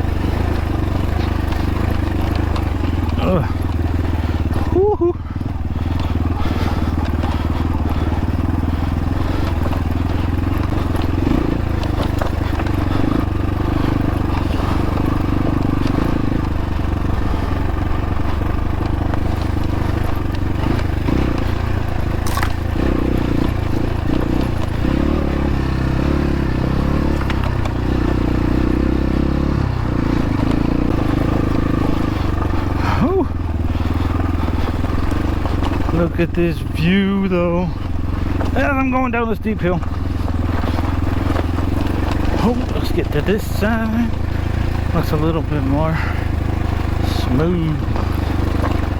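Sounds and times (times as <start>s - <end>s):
clicks and clatter over rough ground: 0.0s - 48.9s
dirt bike engine revving: 0.0s - 48.9s.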